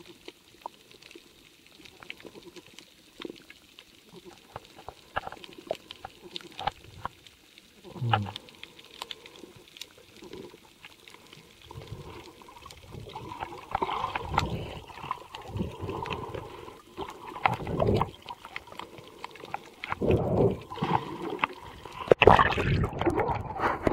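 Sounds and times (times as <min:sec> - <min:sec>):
water swishing and gurgling underwater: 0:00.0 - 0:23.9.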